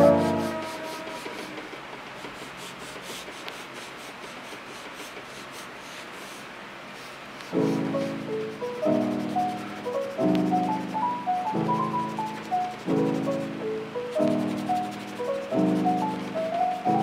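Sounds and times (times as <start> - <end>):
oil pastel scratching on paper: 0.0 - 17.0.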